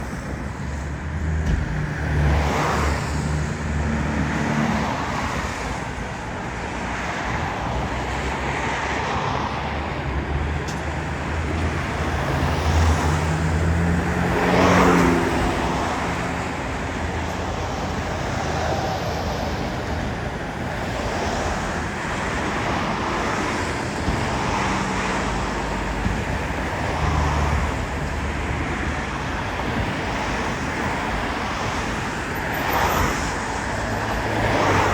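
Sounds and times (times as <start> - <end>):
road and tyre noise: 0.0 - 34.9
trucks passing: 0.0 - 34.9.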